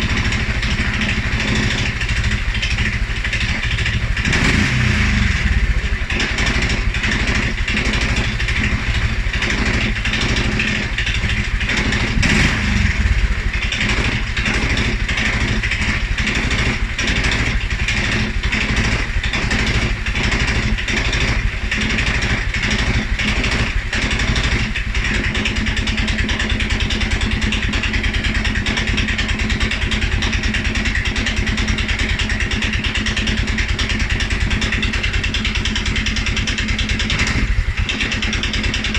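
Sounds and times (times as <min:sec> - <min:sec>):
atv engine idling rough: 0:00.0 - 0:38.9.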